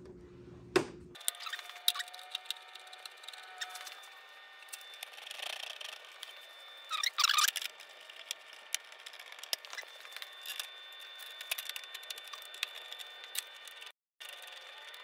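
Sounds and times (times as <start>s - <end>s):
squeaking scrape: 1.2s - 13.9s.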